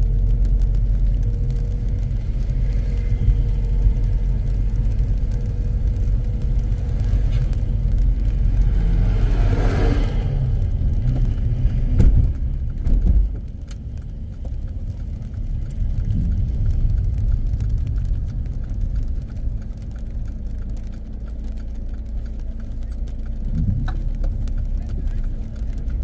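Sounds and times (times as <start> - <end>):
car engine and tyre rumble: 0.0 - 26.0
faint light ticks: 0.0 - 26.0.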